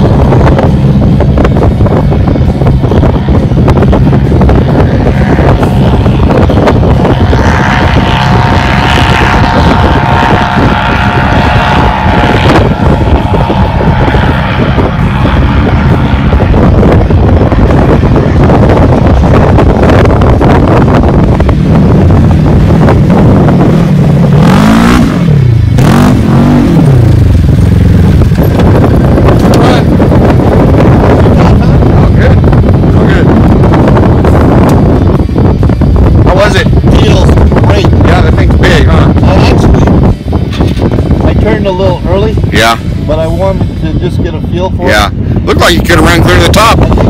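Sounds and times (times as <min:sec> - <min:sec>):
steady whine: 0:00.0 - 0:47.0
vehicle engine at high revs: 0:00.0 - 0:47.0
wind noise on microphone: 0:00.0 - 0:47.0.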